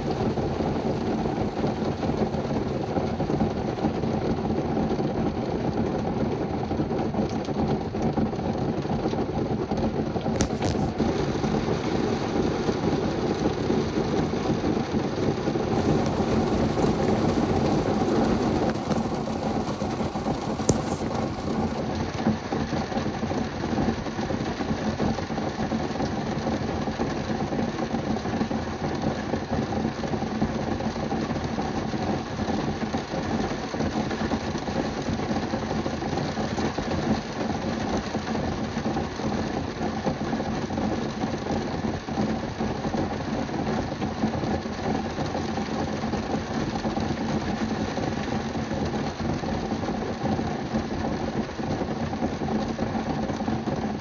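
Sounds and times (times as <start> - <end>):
heavy rain on car roof: 0.0 - 54.0.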